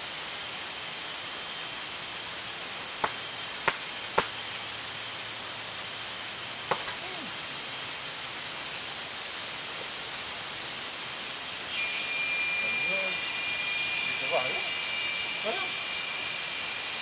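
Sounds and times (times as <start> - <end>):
thin high-pitched whine: 0.0 - 7.8, 10.6 - 17.0
hiss of insects: 0.0 - 17.0.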